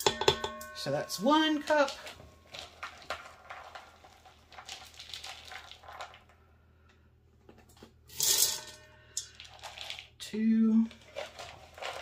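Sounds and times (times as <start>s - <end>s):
dry beans rattling: 0.0s - 6.4s, 8.1s - 12.0s.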